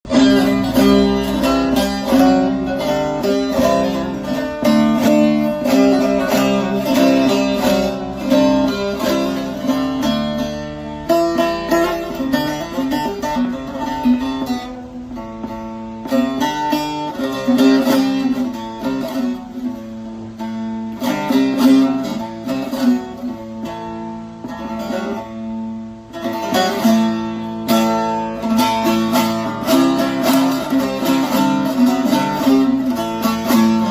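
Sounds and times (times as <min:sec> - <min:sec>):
plucked lute melody: 0:00.0 - 0:33.9.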